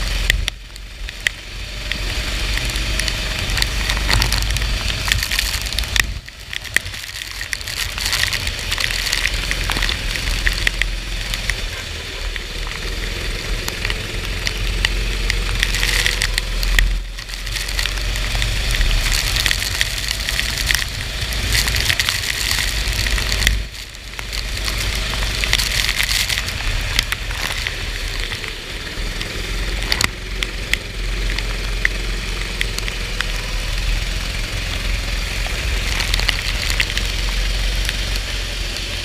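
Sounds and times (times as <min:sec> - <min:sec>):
racing kart engine rumble: 0:00.0 - 0:39.0
rain and water spray crackle: 0:00.0 - 0:39.0.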